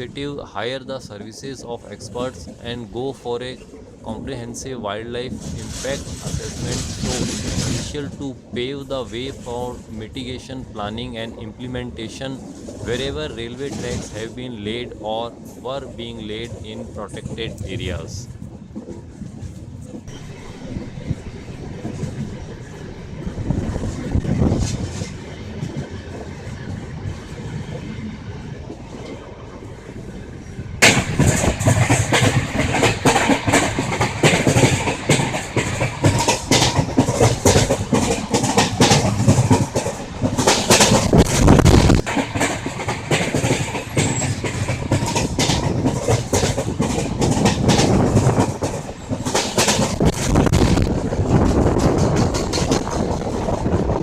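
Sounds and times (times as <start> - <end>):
train wheels clacking over track: 0.0 - 54.0.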